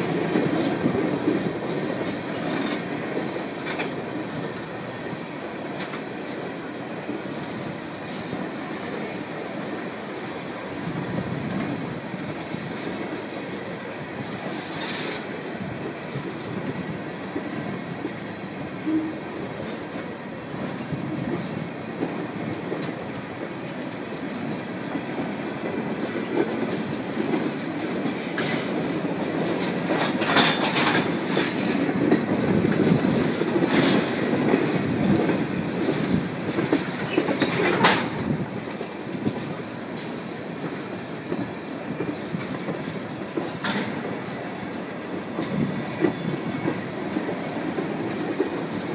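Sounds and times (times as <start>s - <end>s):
freight train cars rumbling: 0.0s - 48.9s.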